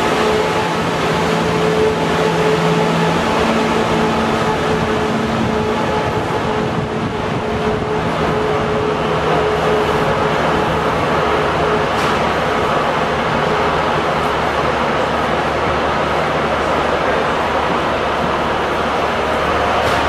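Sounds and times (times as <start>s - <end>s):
diesel train engines droning: 0.0s - 20.0s.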